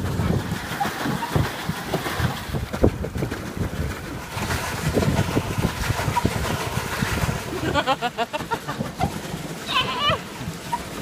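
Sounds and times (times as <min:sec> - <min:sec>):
wind on microphone: 0:00.0 - 0:09.2
paddle wheel churning water: 0:00.0 - 0:11.0.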